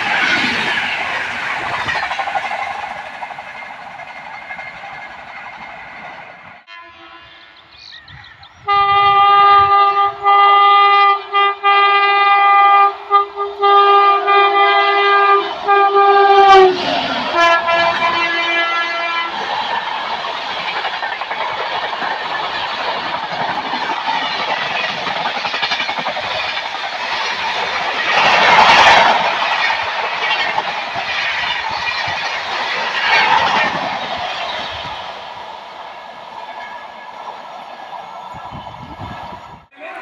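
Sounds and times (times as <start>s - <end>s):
train passing at speed: 0.0s - 40.0s.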